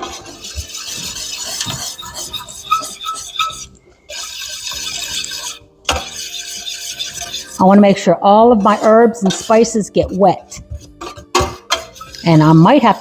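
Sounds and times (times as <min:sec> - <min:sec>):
spoon stirring sauce in pan: 0:00.0 - 0:13.0.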